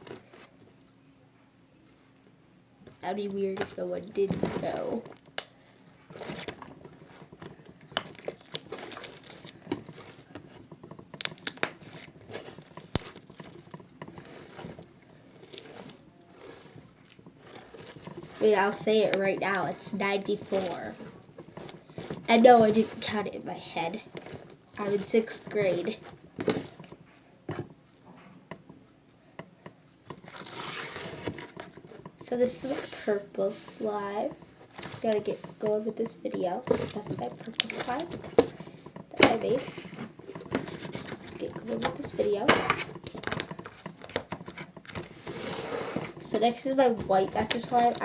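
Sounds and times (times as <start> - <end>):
hands squishing slime: 3.1 - 26.9, 30.2 - 48.0
rustling scrape: 3.3 - 27.2, 30.1 - 48.0.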